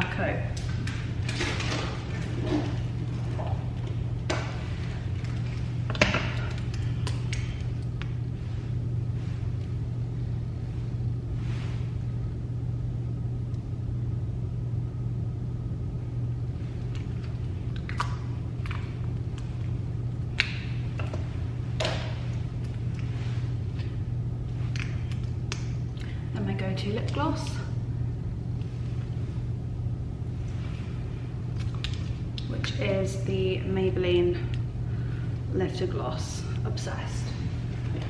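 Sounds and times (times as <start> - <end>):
room noise hum: 0.0 - 38.0.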